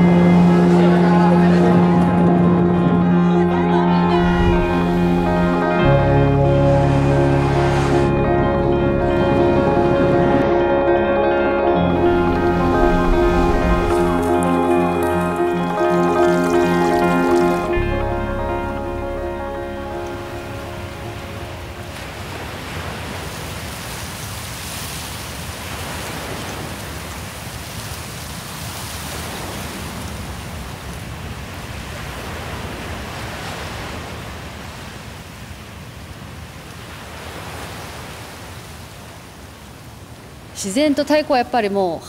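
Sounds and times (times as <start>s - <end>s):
sea waves: 0.0s - 42.0s
wind: 0.0s - 42.0s.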